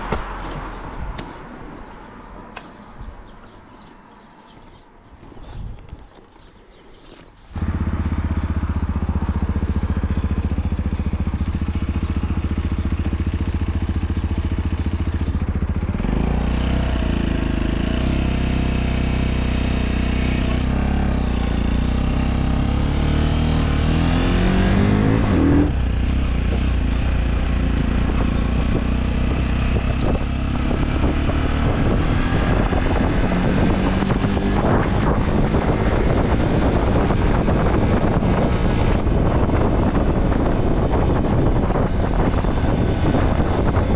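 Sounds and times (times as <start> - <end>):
motorcycle engine accelerating: 7.5 - 43.9.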